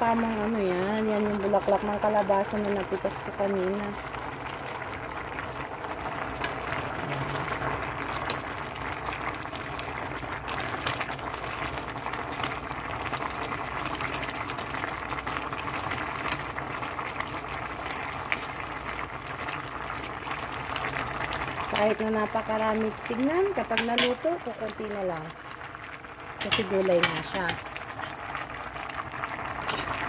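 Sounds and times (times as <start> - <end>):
broth boiling in a pot: 0.0 - 30.0.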